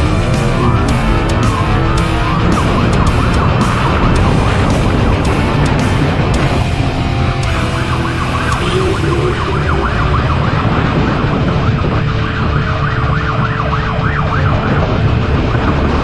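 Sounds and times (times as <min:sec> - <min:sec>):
police siren yelping: 0:00.0 - 0:16.0
vehicle engine and road noise: 0:00.0 - 0:16.0.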